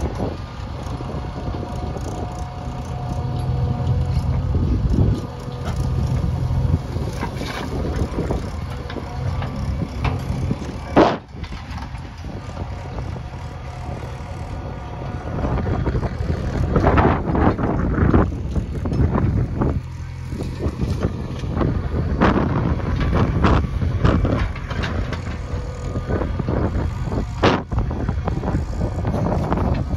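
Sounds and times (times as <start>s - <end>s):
diesel engine running: 0.0s - 29.9s
wind noise on microphone: 0.0s - 29.9s.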